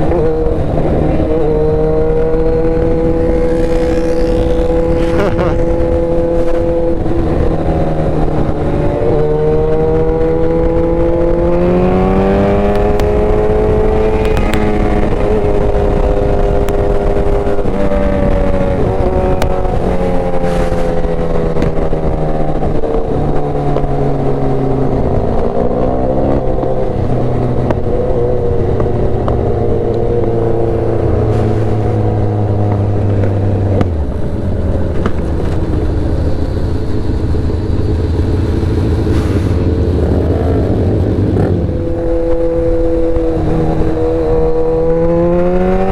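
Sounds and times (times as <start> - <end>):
motorcycle engine revving: 0.0 - 45.9
steady rush of noise: 0.0 - 45.9.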